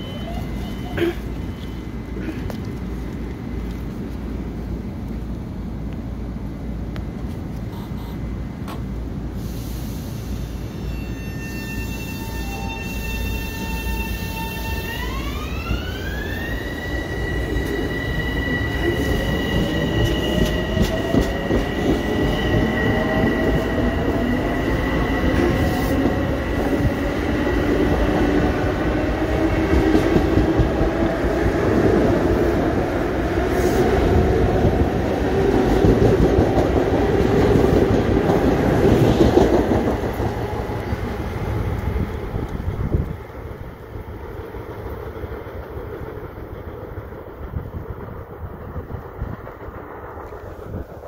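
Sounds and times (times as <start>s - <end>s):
train wheels on rails: 0.0s - 51.0s
electric train traction whine: 10.1s - 51.0s.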